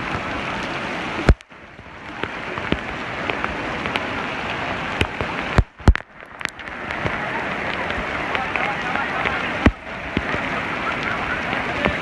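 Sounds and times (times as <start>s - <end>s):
heavy rain hissing: 0.0s - 12.0s
raindrops tapping: 0.0s - 12.0s.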